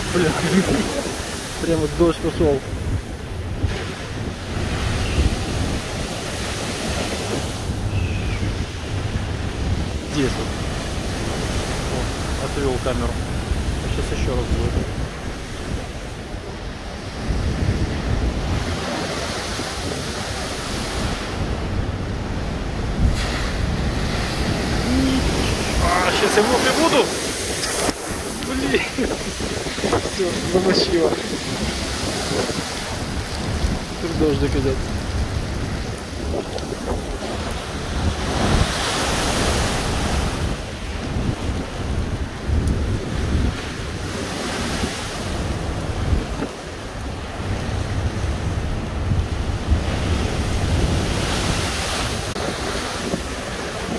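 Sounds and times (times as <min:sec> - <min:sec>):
rush of surf: 0:00.0 - 0:53.9
waves crashing against a wall: 0:00.0 - 0:53.9
wind buffeting the microphone: 0:00.0 - 0:53.9.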